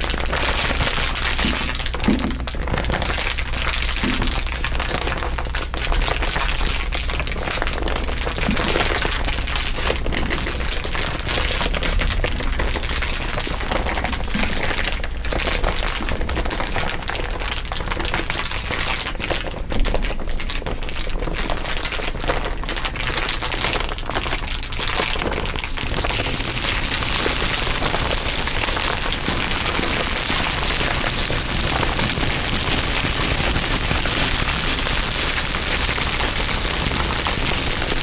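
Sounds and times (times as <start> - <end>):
material crinkling: 0.0 - 38.0.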